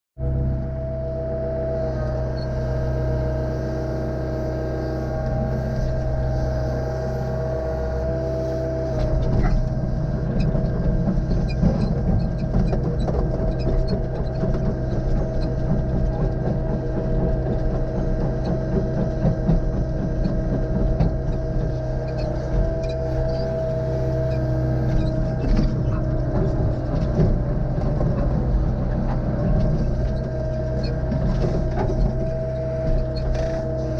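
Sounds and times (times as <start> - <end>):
excavator diesel engine running: 0.2 - 33.9.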